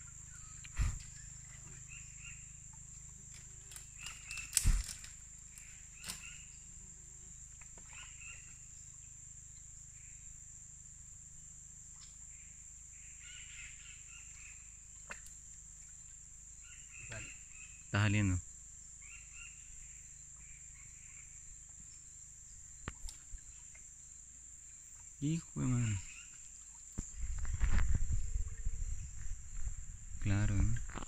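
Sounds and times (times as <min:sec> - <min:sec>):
faint chirps: 0:00.0 - 0:10.8, 0:11.9 - 0:31.0
insects droning: 0:00.0 - 0:31.0.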